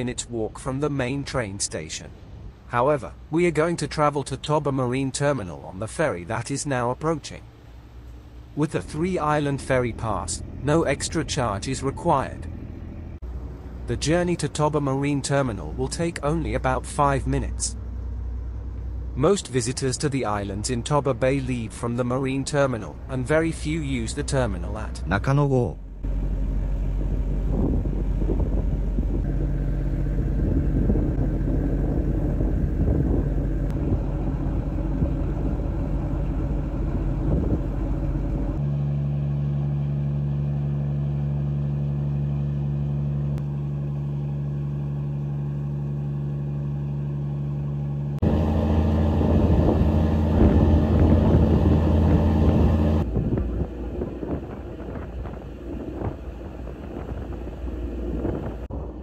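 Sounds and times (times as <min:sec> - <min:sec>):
ferry engine droning: 0:00.0 - 0:59.0.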